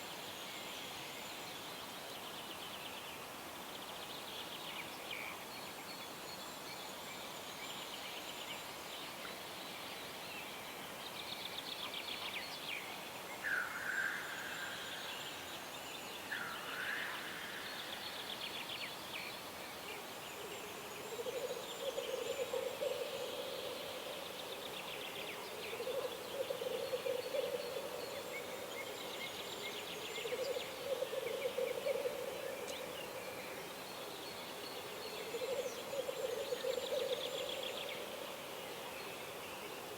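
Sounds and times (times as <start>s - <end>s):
outdoor background noise: 0.0s - 39.9s
songbirds singing and trilling: 0.0s - 39.9s.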